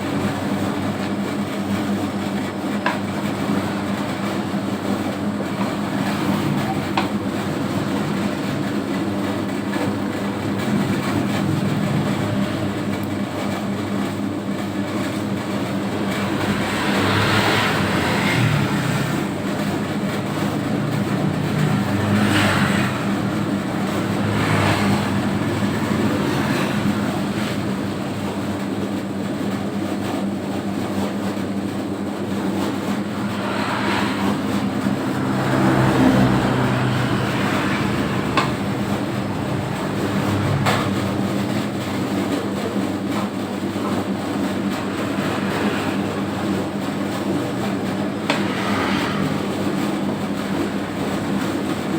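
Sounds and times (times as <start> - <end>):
dough mixer motor hum: 0.0 - 29.7, 30.4 - 51.9.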